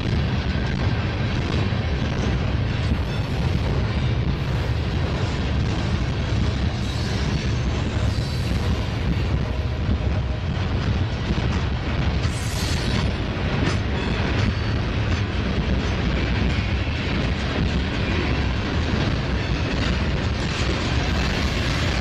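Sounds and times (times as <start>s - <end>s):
freight cars rumbling on rails: 0.0s - 22.0s.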